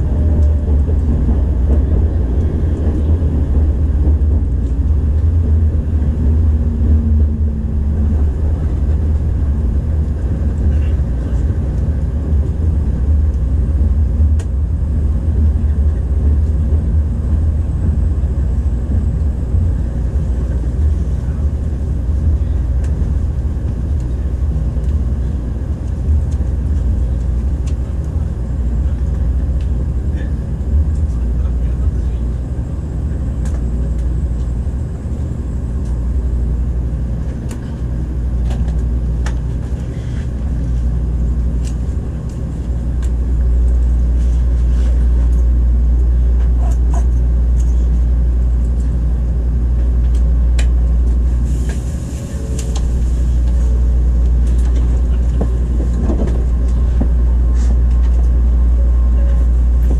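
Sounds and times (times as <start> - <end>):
train interior rumble: 0.0 - 59.9.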